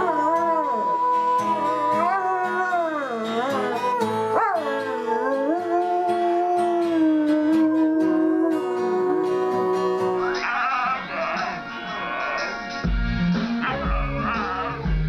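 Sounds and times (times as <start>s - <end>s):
dog howling: 0.0s - 12.6s
background music: 0.0s - 15.0s.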